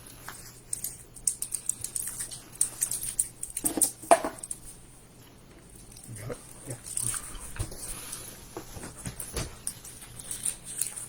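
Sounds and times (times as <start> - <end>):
plastic wrappers crinkling: 0.0 - 4.8, 5.7 - 11.0.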